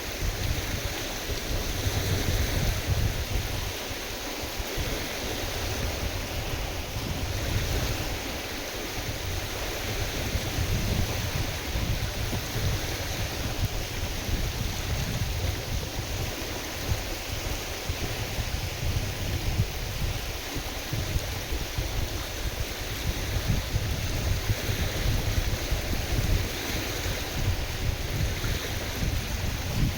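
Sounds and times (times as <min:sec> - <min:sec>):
waves splashing on a lake: 0:00.0 - 0:29.9
wind buffeting microphone: 0:00.0 - 0:29.9.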